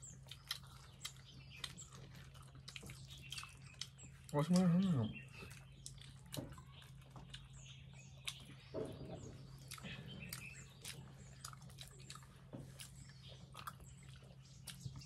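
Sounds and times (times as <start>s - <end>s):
faint bird chirps: 0.0s - 15.0s
low steady hum: 0.0s - 15.0s
people chewing: 0.0s - 15.0s.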